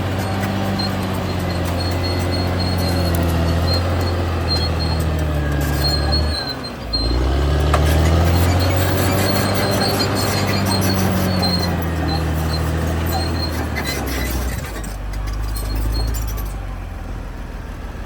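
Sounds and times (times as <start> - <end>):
crawler tracks clattering and squealing: 0.0 - 16.8
bulldozer diesel engine running: 0.0 - 18.0.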